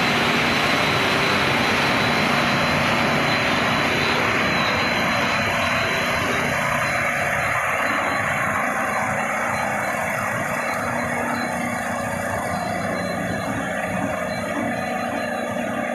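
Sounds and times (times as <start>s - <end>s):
faint high whine: 0.0s - 15.9s
machinery running: 0.0s - 15.9s.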